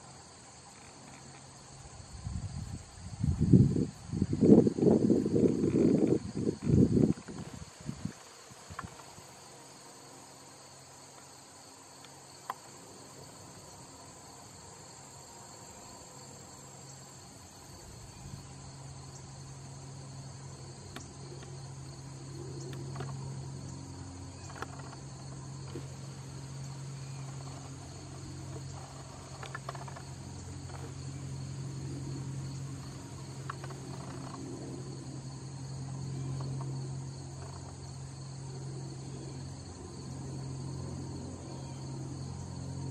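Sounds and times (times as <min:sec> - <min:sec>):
insects chirping: 0:00.0 - 0:42.9
steady low hum: 0:00.0 - 0:42.9.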